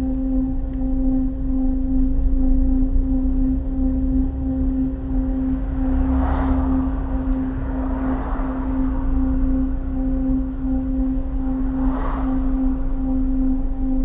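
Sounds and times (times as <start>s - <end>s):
road and engine rumble: 0.0s - 14.0s
steady humming tone: 0.0s - 14.0s.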